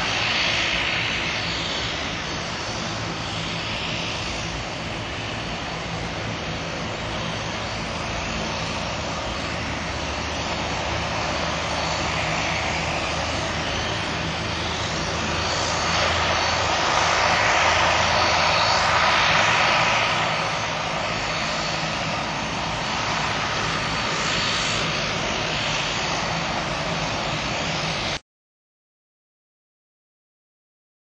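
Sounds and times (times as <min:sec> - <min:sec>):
jet engines roaring with high whine: 0:00.0 - 0:28.2.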